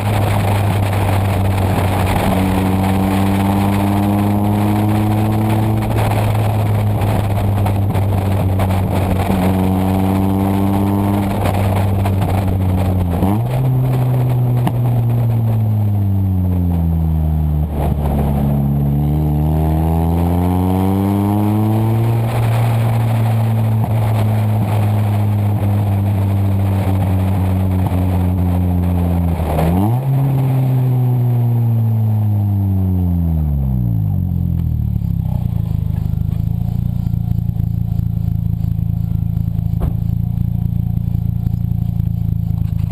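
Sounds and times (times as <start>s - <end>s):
car engine with unmuffled exhaust: 0.0s - 42.9s.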